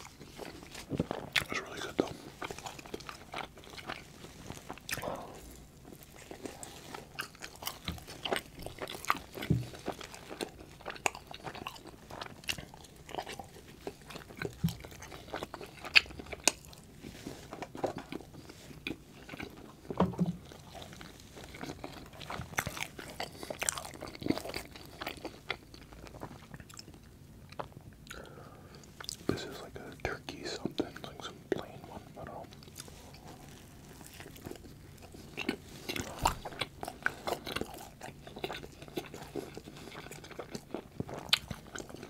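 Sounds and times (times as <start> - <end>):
close chewing: 0.0 - 42.0.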